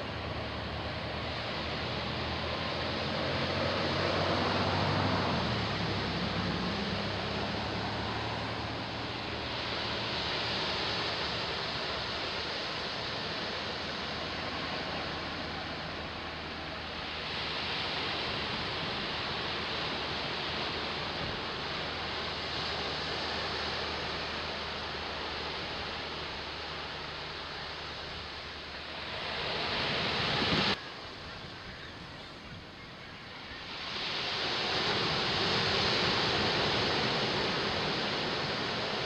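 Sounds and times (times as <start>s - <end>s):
ocean waves breaking: 0.0s - 39.0s.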